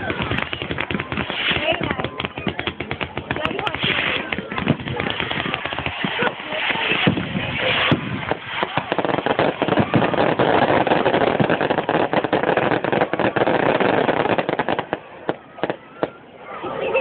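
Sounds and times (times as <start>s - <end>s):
fireworks popping and crackling: 0.0s - 16.2s.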